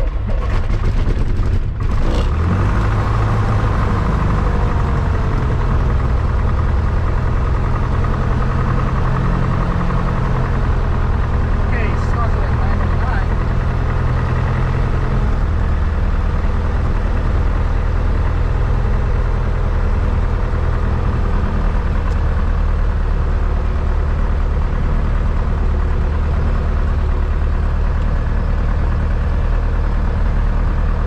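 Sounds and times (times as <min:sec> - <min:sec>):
light aircraft engine idling: 0:03.4 - 0:31.0.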